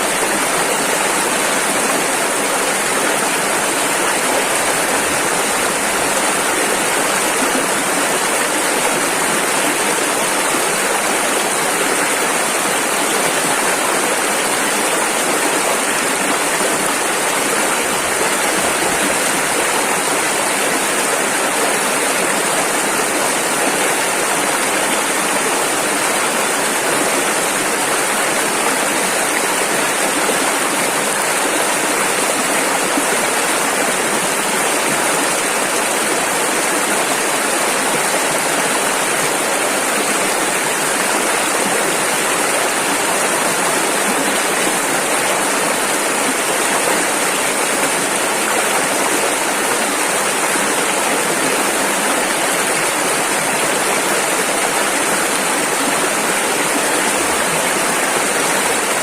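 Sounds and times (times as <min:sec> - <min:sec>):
river rushing over rapids: 0:00.0 - 0:59.0.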